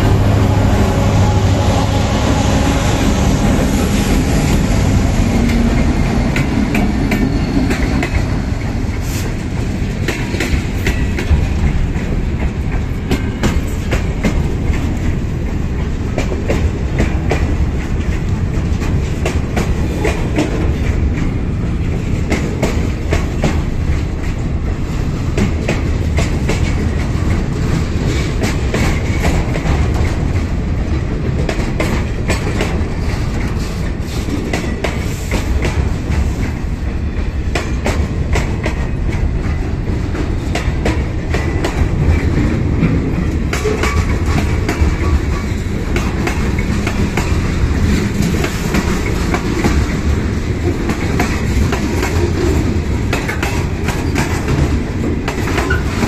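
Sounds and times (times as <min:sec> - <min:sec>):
train wheels rumbling on rails: 0:00.0 - 0:56.0
wheels clacking over rail joints: 0:00.0 - 0:56.0.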